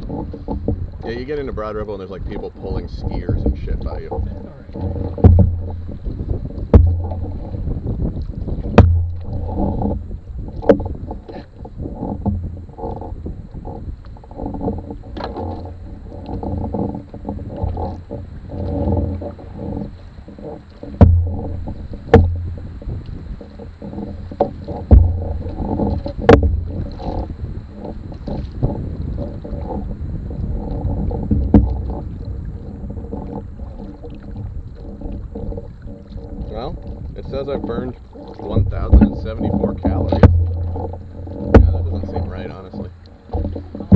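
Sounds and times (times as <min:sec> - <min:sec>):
sharp knocks against hull: 0:00.0 - 0:01.5, 0:02.4 - 0:29.9, 0:30.7 - 0:43.9
low rumble: 0:00.0 - 0:43.9
water slapping metal canoe hull: 0:00.0 - 0:43.9.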